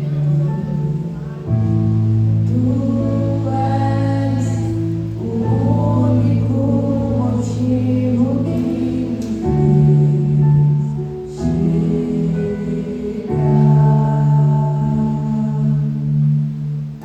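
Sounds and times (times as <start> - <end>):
steady low bass: 0.0 - 17.0
worship music with held chords: 0.0 - 17.0.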